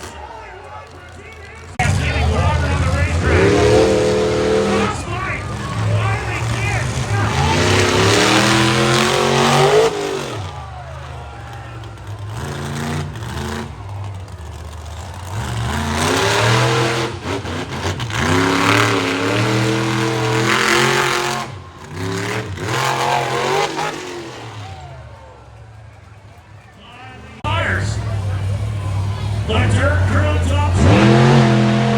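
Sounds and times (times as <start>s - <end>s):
monster truck engine revving: 0.0s - 31.9s.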